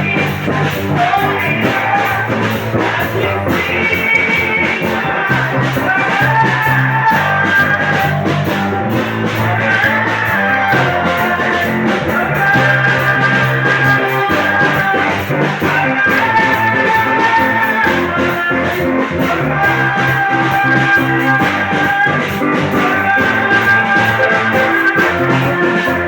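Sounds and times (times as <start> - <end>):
church band playing worship music: 0.0 - 26.0.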